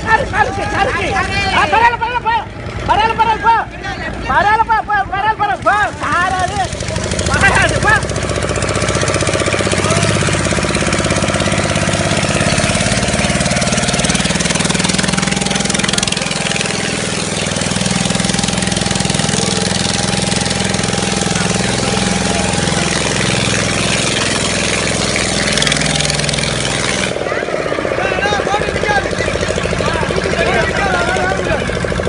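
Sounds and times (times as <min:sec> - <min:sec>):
motor engine running: 0:00.0 - 0:32.0.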